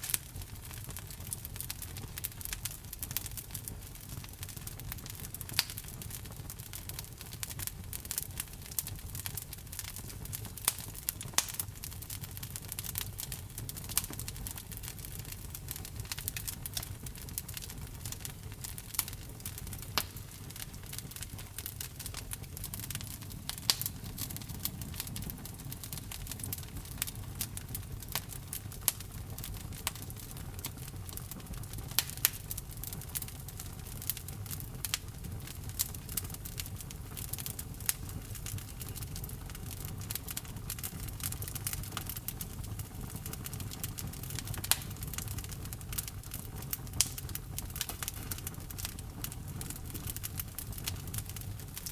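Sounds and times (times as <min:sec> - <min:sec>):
logs crackling and popping: 0:00.0 - 0:51.9
low rumble of flames: 0:00.0 - 0:51.9.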